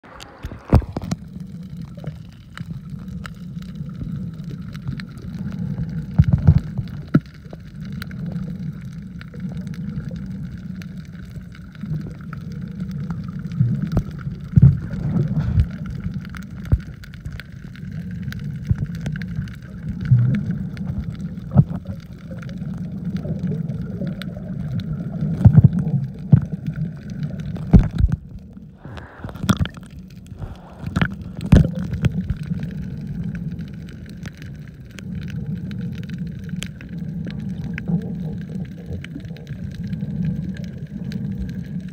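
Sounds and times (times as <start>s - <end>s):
muffled underwater rumble: 0.0s - 41.9s
water gurgling: 0.0s - 41.9s.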